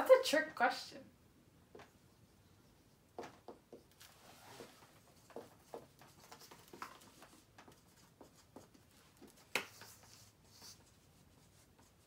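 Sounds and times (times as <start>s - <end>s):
marker scratching on whiteboard: 1.8s - 12.0s.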